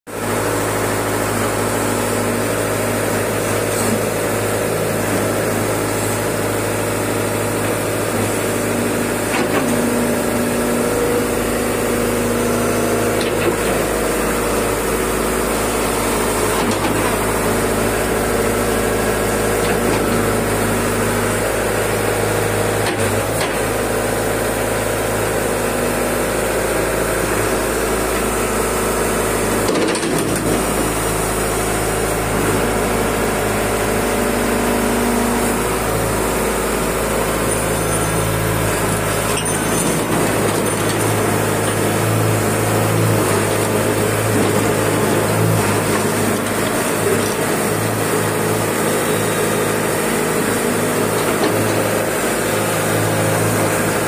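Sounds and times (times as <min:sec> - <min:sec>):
excavator diesel engine running: 0:00.1 - 0:54.0.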